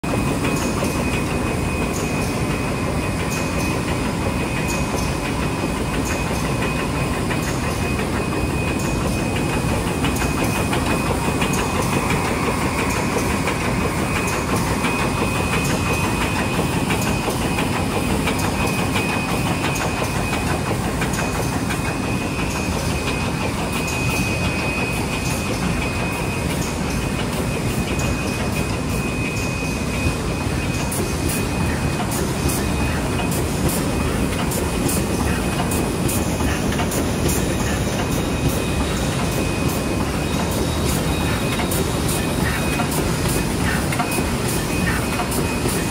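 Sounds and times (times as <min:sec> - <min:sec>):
machine whirring with high whine: 0:00.0 - 0:45.9.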